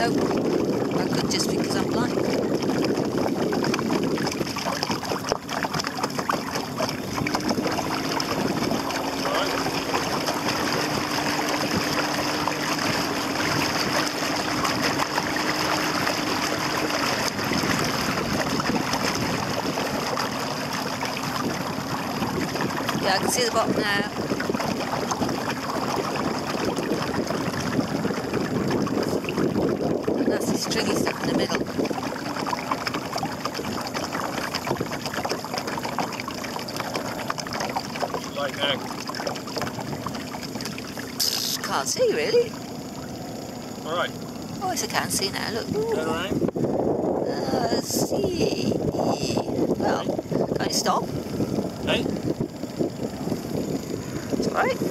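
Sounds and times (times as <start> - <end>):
outboard motor hum: 0.0 - 54.9
water splashing along boat hull: 0.0 - 54.9.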